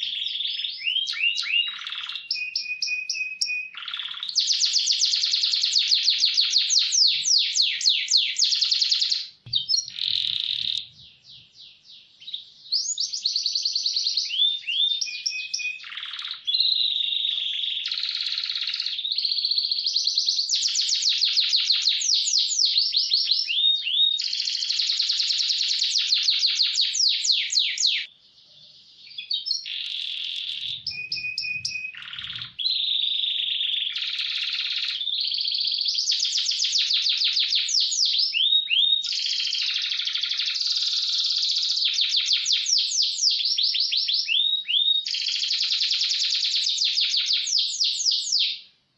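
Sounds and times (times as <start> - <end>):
canary singing rapid trills: 0.0 - 28.1, 28.7 - 48.6.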